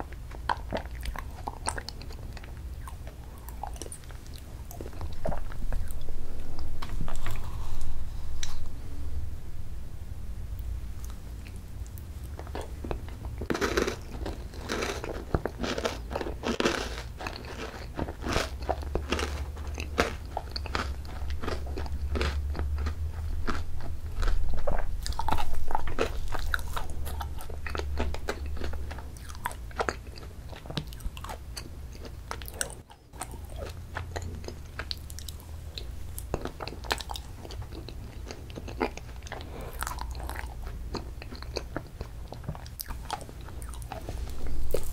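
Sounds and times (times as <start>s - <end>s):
wet mouth chewing sounds: 0.0s - 8.8s, 11.0s - 44.9s.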